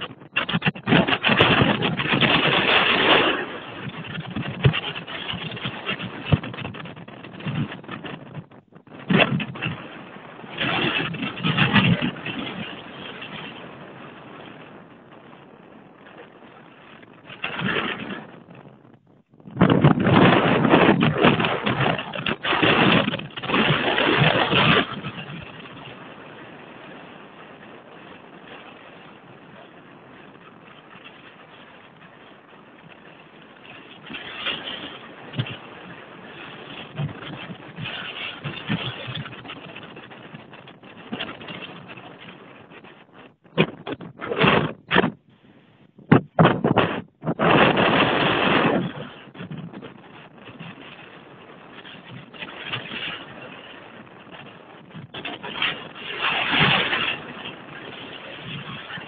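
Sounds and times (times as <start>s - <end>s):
choppy lake water: 0.0s - 59.0s
wind buffeting microphone: 0.0s - 59.0s.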